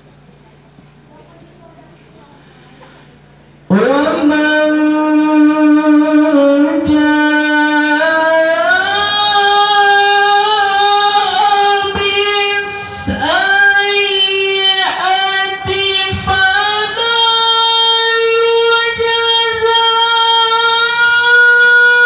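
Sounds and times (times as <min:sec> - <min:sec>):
man reciting melodically into microphone: 0:03.7 - 0:22.0.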